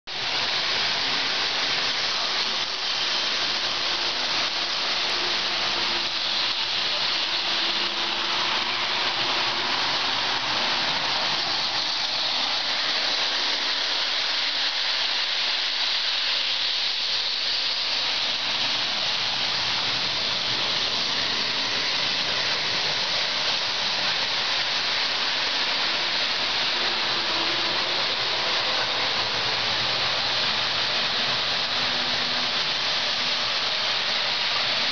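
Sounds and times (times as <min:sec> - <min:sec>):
model train wheels and motors: 0:00.1 - 0:34.9.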